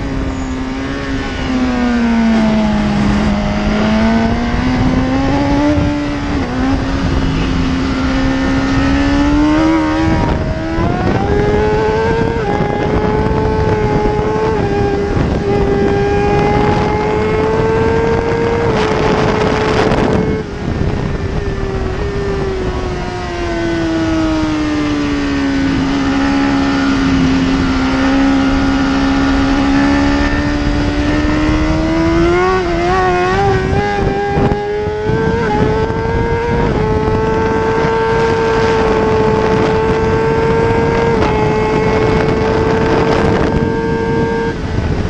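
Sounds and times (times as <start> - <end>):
motorcycle engine at racing speed: 0.0 - 45.0
wind rush: 0.0 - 45.0.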